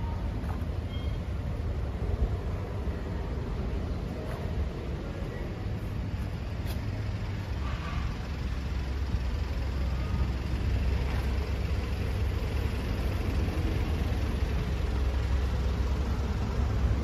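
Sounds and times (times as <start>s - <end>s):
motorcycle engine idling: 2.8s - 17.0s.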